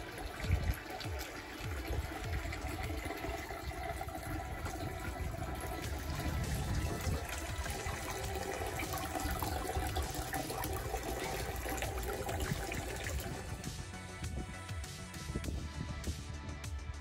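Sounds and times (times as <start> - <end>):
water pouring into stone basin: 0.0 - 14.4.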